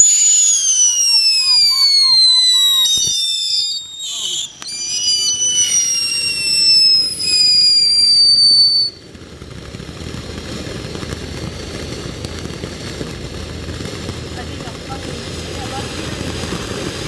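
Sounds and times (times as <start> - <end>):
firework whistling: 0.0 - 17.0.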